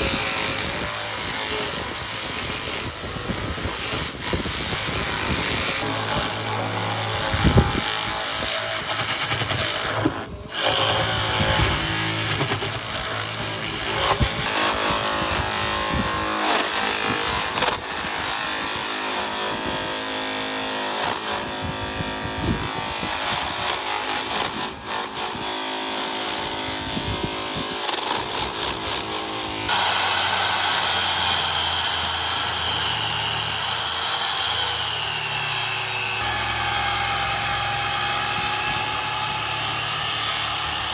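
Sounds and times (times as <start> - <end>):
power tools cutting wood: 0.0 - 40.9
tool with high wavering whine: 0.0 - 40.9.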